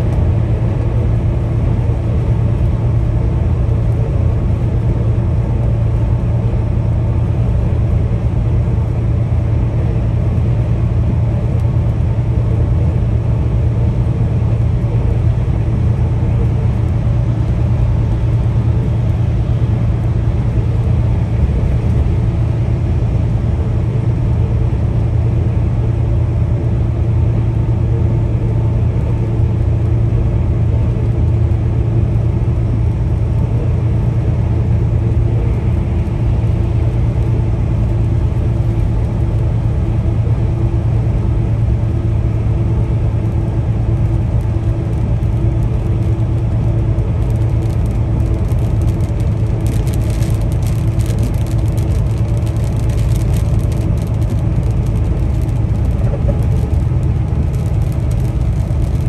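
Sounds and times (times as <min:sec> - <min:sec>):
road noise hiss: 0:00.0 - 0:59.0
truck engine drone: 0:00.0 - 0:59.0.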